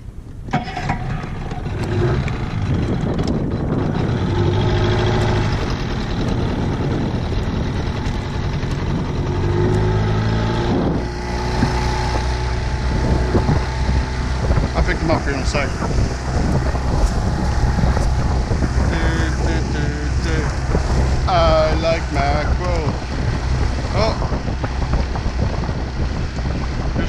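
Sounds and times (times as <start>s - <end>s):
wind and water rushing: 0.0s - 27.0s
outboard motor running: 0.4s - 27.0s.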